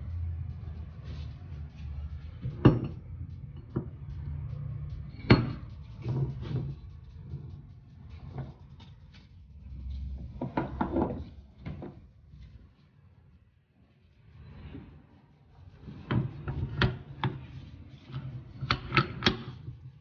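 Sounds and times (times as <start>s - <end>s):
low steady hum: 0.0s - 18.8s.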